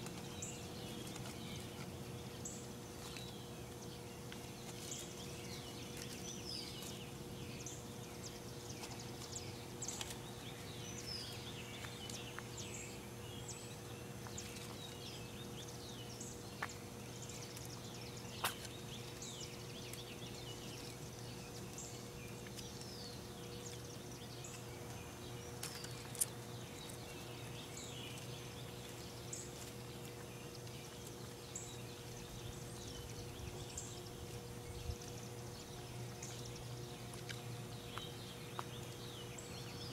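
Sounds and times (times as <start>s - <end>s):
low electrical hum: 0.0s - 39.9s
small birds chirping: 0.0s - 39.9s.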